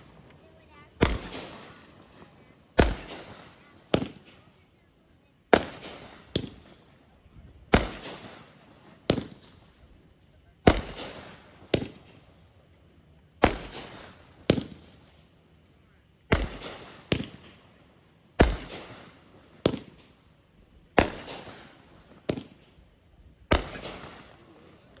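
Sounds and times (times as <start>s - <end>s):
fireworks bangs: 0.0s - 4.9s, 5.5s - 12.5s, 13.3s - 15.3s, 16.2s - 25.0s.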